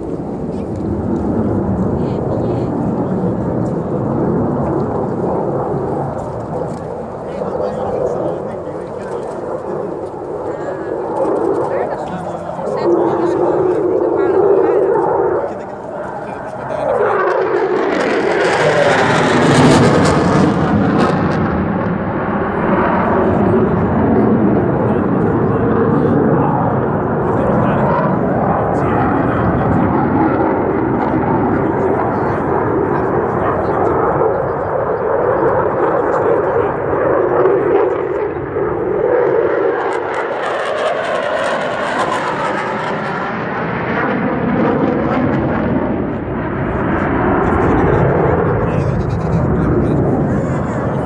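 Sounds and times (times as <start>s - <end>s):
jet engine roar: 0.0s - 51.0s.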